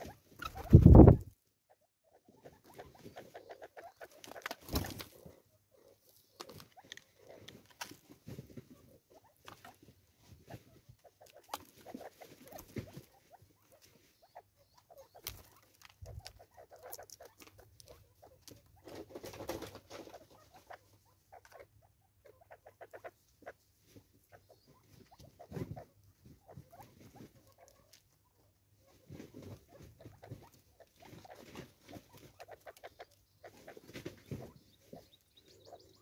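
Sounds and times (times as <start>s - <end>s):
birds pecking and scratching: 0.0s - 36.0s.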